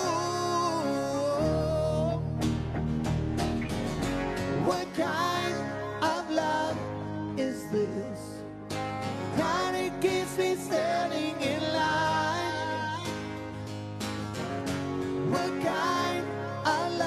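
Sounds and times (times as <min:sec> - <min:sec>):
electric guitar lead lines: 0:00.0 - 0:17.0
strummed acoustic guitar: 0:00.0 - 0:17.0.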